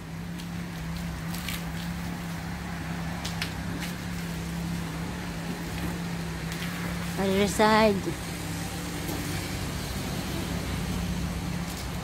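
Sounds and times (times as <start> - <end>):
foam brush scrubbing car: 0.0 - 12.0.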